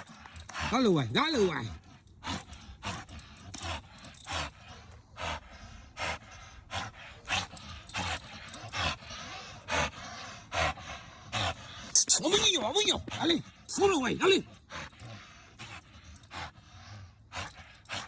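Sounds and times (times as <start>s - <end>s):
dog breathing hard: 0.0s - 18.0s.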